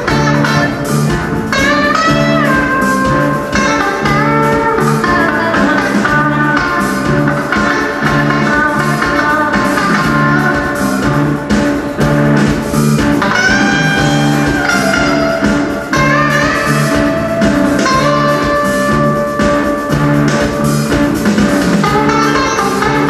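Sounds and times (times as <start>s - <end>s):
bass line: 0.0s - 23.0s
drum kit: 0.0s - 23.0s
electric guitar lead: 0.0s - 23.0s.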